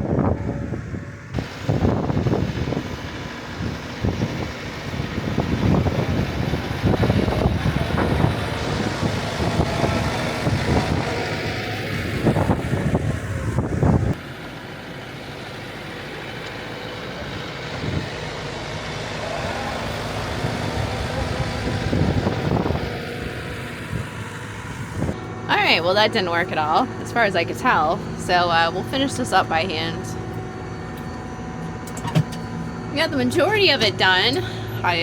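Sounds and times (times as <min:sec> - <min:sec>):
tractor diesel engine running: 0:00.0 - 0:35.0
snow plow pushing snow: 0:00.4 - 0:35.0.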